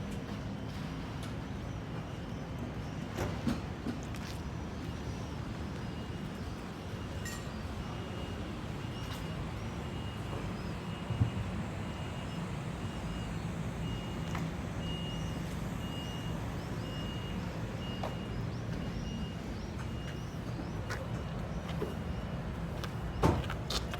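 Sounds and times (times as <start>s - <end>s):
low machinery hum: 0.1s - 23.9s.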